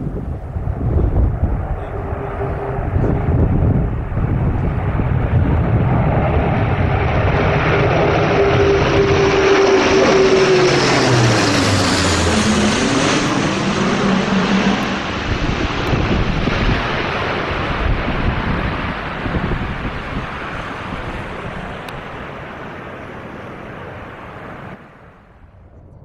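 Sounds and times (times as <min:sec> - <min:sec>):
propeller aircraft passing low: 0:00.0 - 0:25.7.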